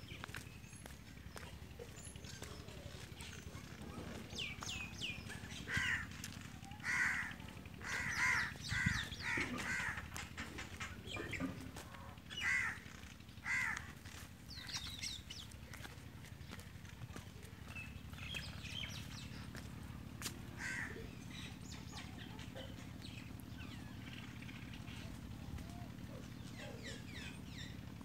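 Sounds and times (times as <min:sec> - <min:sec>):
birds calling: 0:00.0 - 0:28.0
steady low hum: 0:00.0 - 0:28.0.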